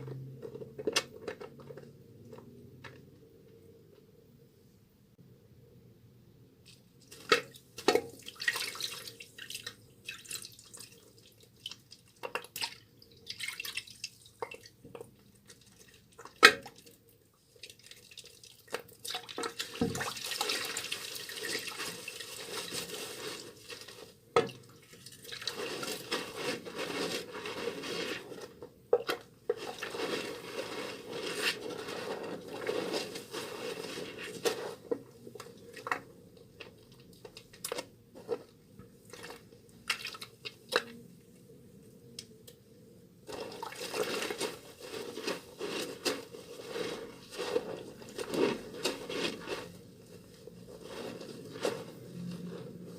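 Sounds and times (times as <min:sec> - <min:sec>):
wet soap squishing: 0:07.1 - 0:41.1, 0:43.2 - 0:52.2.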